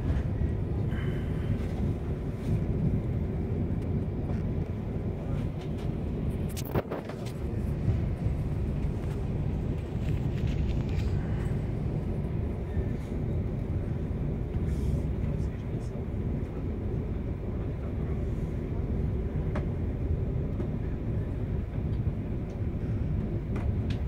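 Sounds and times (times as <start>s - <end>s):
train rumble inside carriage: 0.0s - 24.0s.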